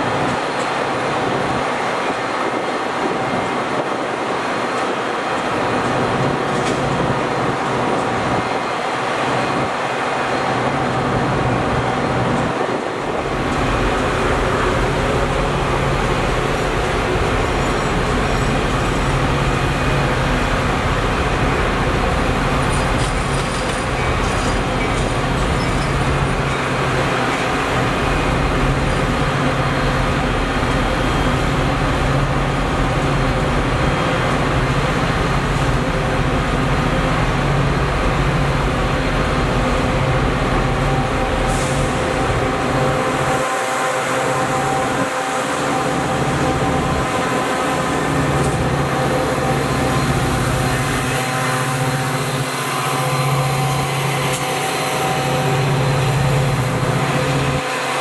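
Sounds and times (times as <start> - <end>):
low train hum: 0.0 - 58.0
train rumbling past: 0.0 - 58.0.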